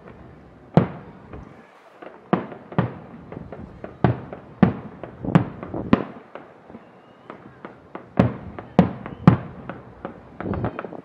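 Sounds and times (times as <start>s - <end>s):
fireworks bursting with bangs: 0.0s - 11.0s
small fireworks pops: 0.0s - 11.0s.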